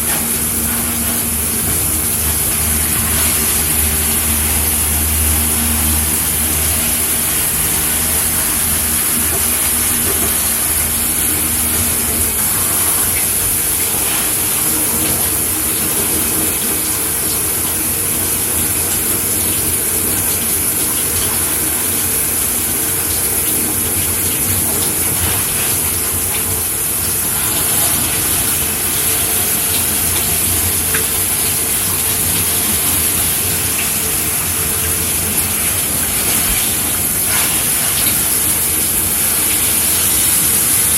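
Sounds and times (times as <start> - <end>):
shower water spraying: 0.0 - 40.9.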